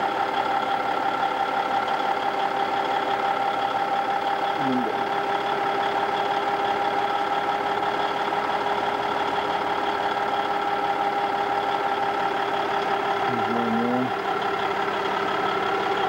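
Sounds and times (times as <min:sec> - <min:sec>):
diesel machinery idling: 0:00.0 - 0:16.0.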